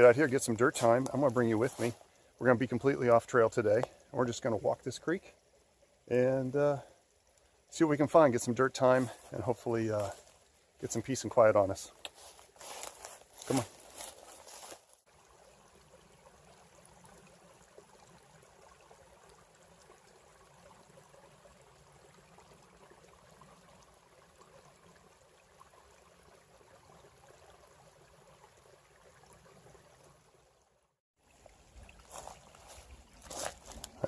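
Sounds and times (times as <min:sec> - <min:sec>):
creek trickling: 0:00.0 - 0:34.0.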